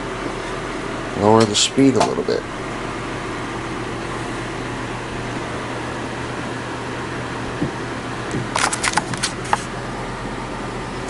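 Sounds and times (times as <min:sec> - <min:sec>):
ceiling fan whirring: 0:00.0 - 0:11.0.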